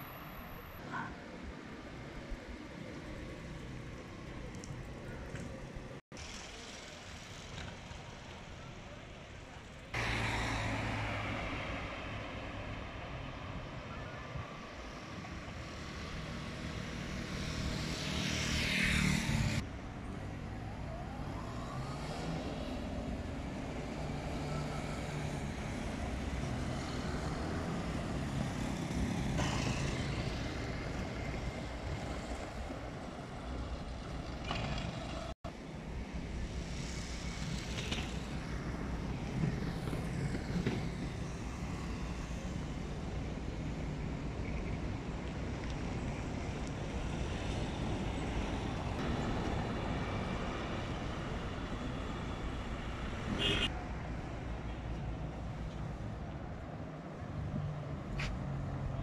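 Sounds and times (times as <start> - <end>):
street noise: 0.0 - 59.0.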